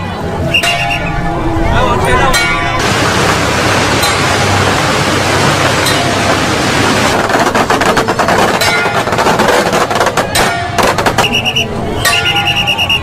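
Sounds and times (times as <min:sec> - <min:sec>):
steady noisy din: 0:00.0 - 0:13.0
firecrackers crackling: 0:02.4 - 0:13.0.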